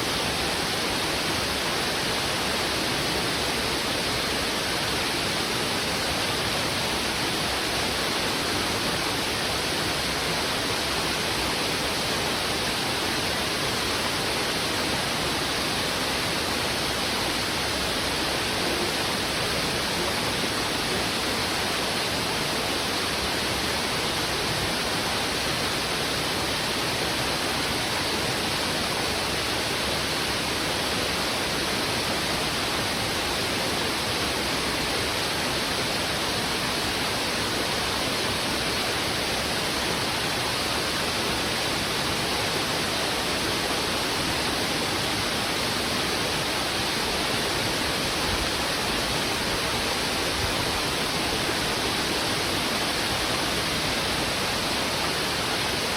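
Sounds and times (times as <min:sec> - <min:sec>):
river water rushing over rocks: 0:00.0 - 0:55.9.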